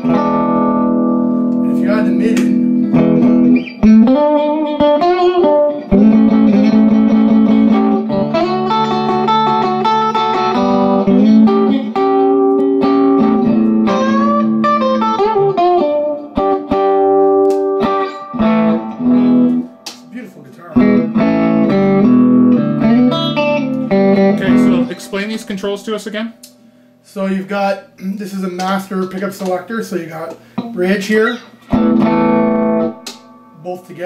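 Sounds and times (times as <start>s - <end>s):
electric guitar playing: 0.0s - 27.1s, 30.4s - 34.0s.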